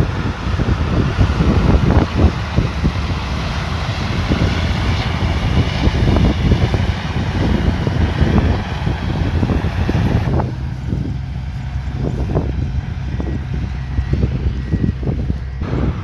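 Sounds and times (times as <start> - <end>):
combine harvester engine hum: 0.0 - 16.0.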